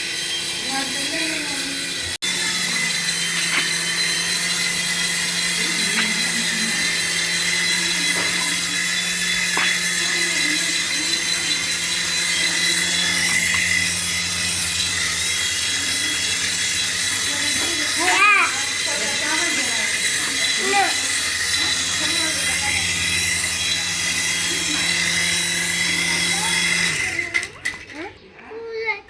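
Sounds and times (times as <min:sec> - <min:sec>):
toy electric motor whirring: 0:00.0 - 0:29.0.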